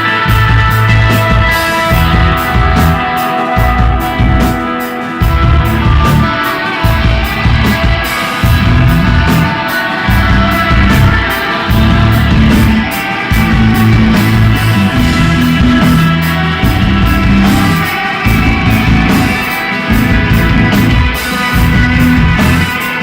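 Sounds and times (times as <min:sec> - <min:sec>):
drums cymbal beat: 0:00.0 - 0:23.0
electric guitar ringing notes: 0:00.0 - 0:23.0
heavy bass line: 0:00.0 - 0:23.0.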